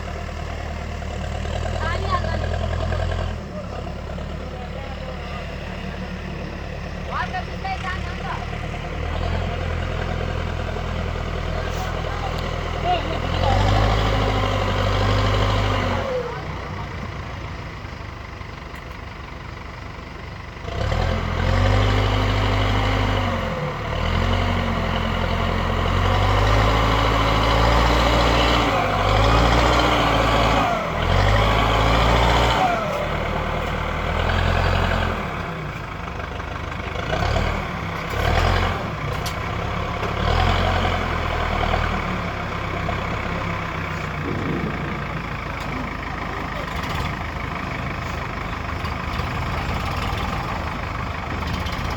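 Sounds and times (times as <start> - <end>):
heavy diesel engines revving: 0.0 - 51.9.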